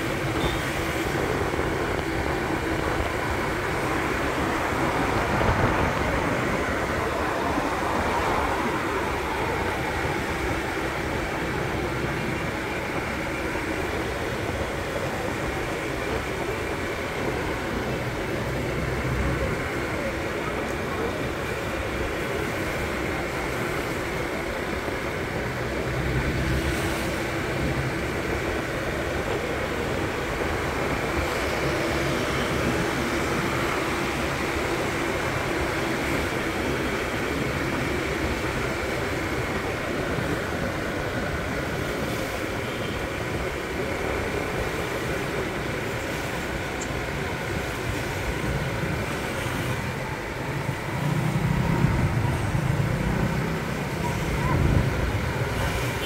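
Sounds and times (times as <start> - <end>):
motor scooter engine hum: 0.0 - 56.0
traffic passing: 0.0 - 56.0
wind and road noise: 0.0 - 56.0.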